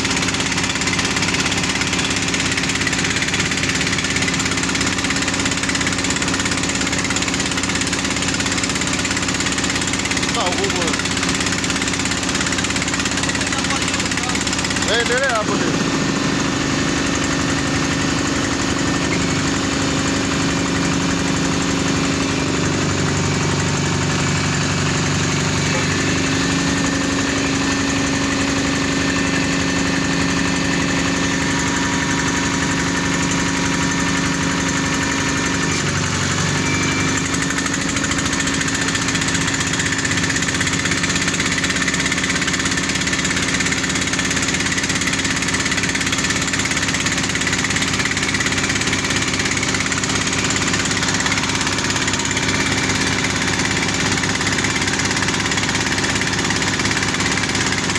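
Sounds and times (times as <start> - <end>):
drilling rig engine running: 0.0 - 57.9.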